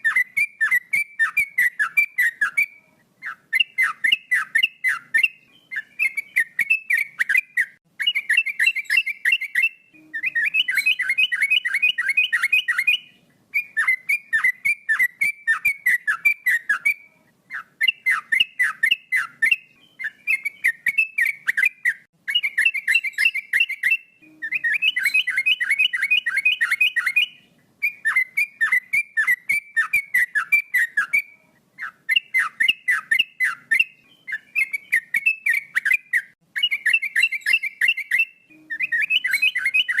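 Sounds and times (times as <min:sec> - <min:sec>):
bird singing bubbling chirps: 0:00.0 - 0:40.0.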